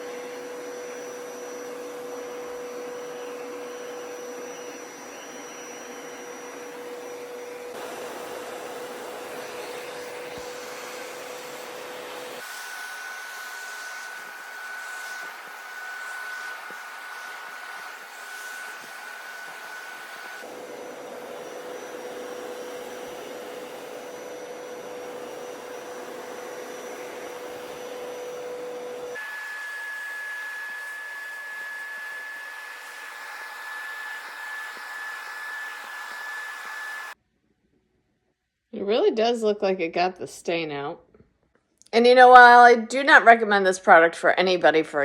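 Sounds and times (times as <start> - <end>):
carpet cleaner motor whining: 0.0 - 37.2.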